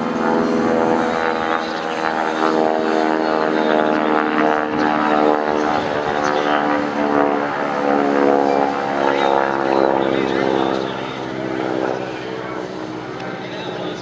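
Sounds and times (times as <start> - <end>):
propeller plane engine in flight: 0.0 - 14.0.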